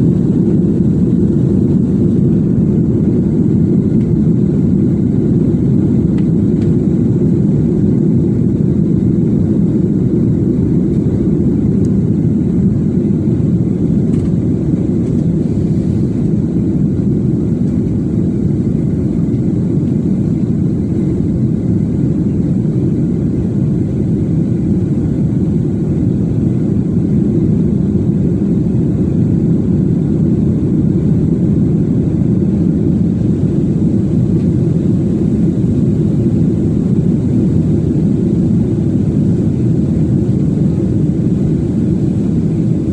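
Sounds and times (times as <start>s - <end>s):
jet airliner taking off: 0.0s - 42.9s.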